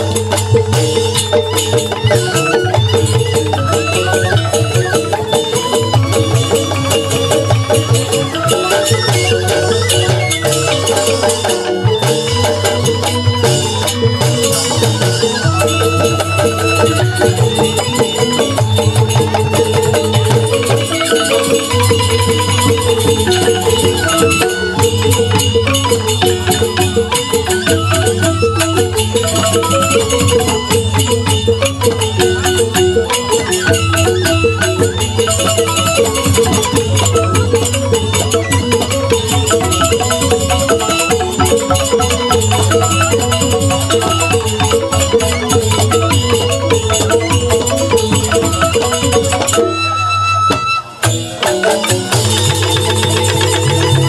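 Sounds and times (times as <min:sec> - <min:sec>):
bamboo flutes: 0:00.0 - 0:54.0
bamboo xylophones: 0:00.0 - 0:54.0
hand drums: 0:00.0 - 0:54.0.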